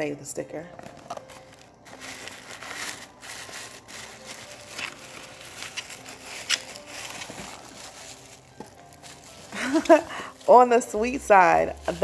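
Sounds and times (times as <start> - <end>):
tissue paper and plastic crinkling: 0.7 - 12.0.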